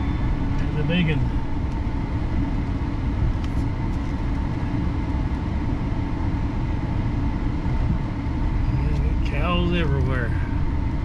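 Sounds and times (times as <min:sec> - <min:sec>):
road and engine rumble in truck cab: 0:00.0 - 0:11.0.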